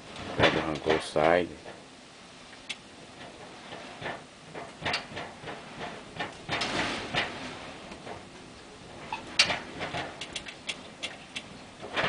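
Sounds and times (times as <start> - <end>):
hurricane wind: 0.0 - 12.0.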